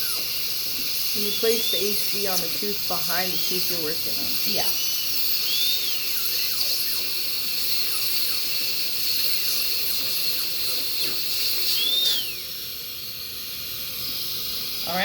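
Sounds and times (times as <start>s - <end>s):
dental drill whining: 0.0s - 15.0s
suction hiss: 0.0s - 15.0s.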